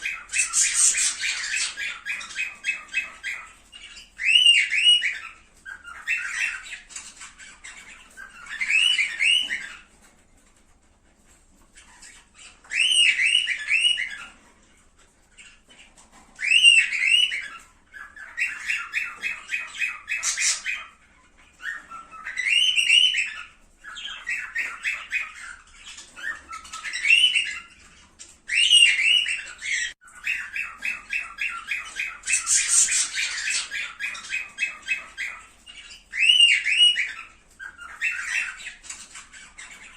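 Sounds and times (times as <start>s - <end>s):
cockatiels squawking: 0.0s - 10.2s, 11.3s - 39.9s
cockatiels chattering: 0.0s - 39.9s.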